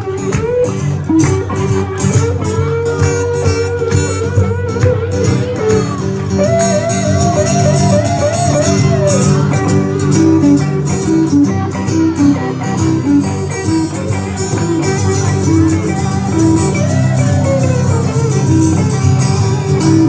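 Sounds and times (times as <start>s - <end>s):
live band music with guitar: 0.0s - 20.0s.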